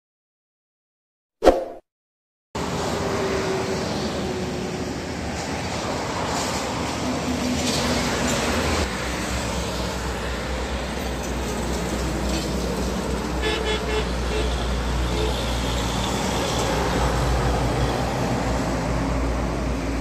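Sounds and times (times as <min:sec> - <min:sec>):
highway traffic: 0:02.6 - 0:20.0.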